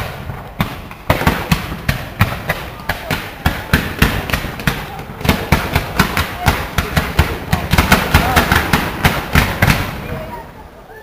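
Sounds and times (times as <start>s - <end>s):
firework bangs: 0.0s - 10.5s
continuous noisy hiss: 0.0s - 11.0s.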